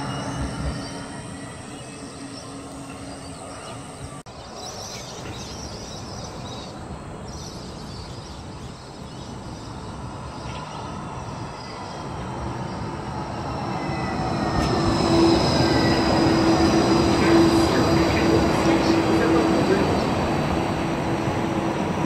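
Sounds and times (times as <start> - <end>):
traffic ambience: 0.0 - 22.0
tram electric drive humming: 0.0 - 22.0.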